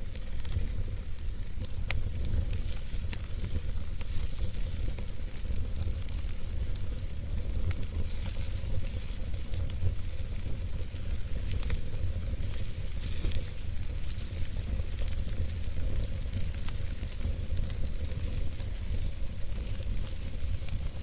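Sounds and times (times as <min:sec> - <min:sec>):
crackles and pops of burning logs: 0:00.0 - 0:21.0
wood fire rumbling and hissing: 0:00.0 - 0:21.0.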